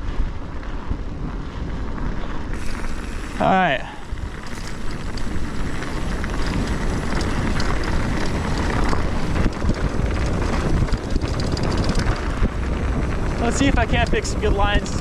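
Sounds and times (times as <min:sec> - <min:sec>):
bike tyres on dirt trail: 0:00.0 - 0:15.0
wind on microphone: 0:00.0 - 0:15.0
bike clicks and rattles: 0:00.1 - 0:15.0.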